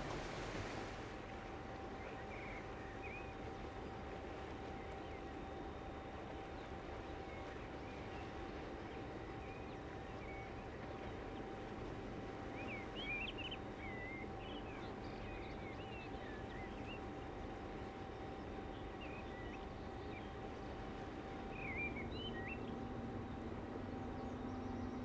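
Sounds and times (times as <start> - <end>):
faint constant hum: 0.0 - 25.0.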